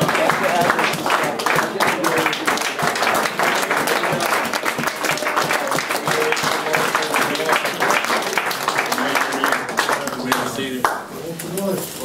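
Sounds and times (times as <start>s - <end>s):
crowd clapping: 0.0s - 11.4s.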